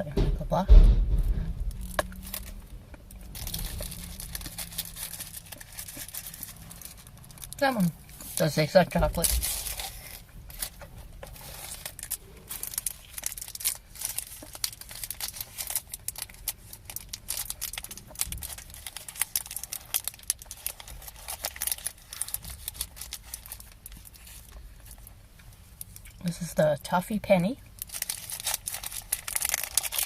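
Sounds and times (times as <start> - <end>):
cellophane wrapper crinkling: 1.6 - 26.3, 27.7 - 30.0.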